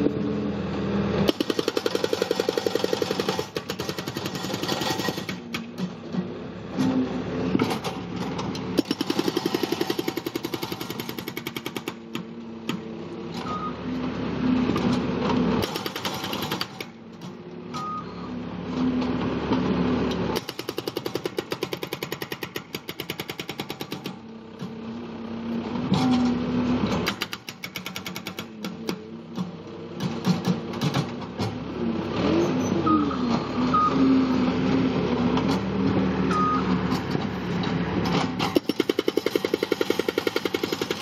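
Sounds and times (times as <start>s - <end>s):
diesel engine running steadily: 0.0s - 41.0s.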